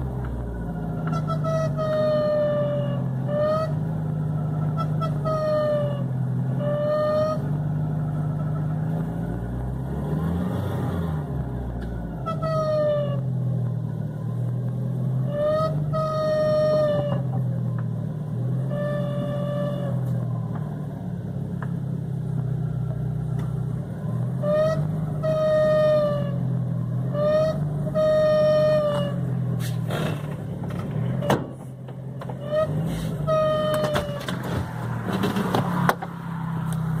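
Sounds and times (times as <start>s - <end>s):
car engine idling: 0.0s - 10.0s, 11.2s - 37.0s
high-pitched engine squeal: 0.0s - 11.4s, 12.0s - 13.6s, 15.0s - 20.6s, 24.0s - 31.7s, 32.3s - 37.0s.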